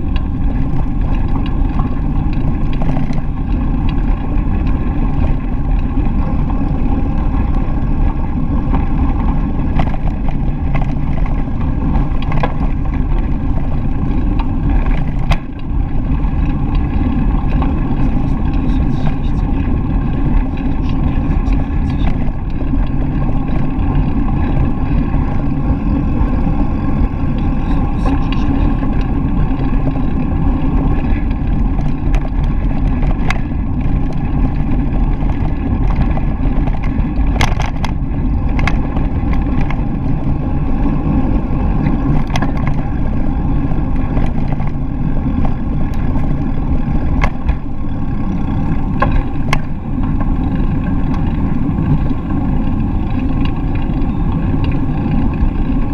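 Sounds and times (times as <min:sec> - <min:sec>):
bicycle tyres rolling on path: 0:00.0 - 0:55.9
bike clicks and rattles: 0:00.0 - 0:55.9
wind buffeting microphone: 0:00.0 - 0:55.9.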